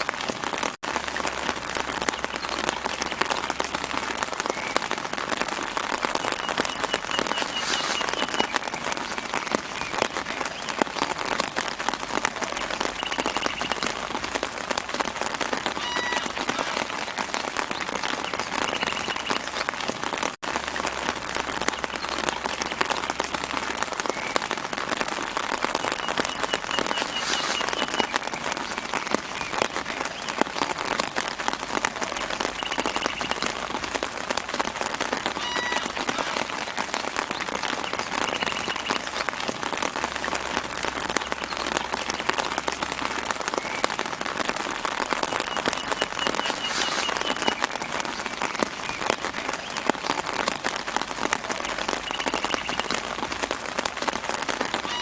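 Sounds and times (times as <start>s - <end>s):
light rain on leaves: 0.0s - 55.0s.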